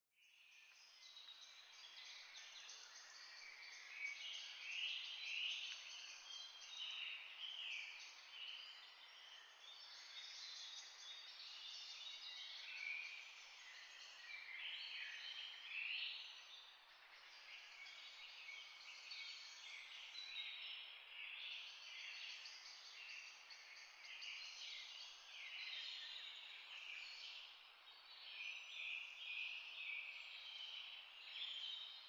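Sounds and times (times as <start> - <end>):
small birds chirping: 0.2 - 32.0.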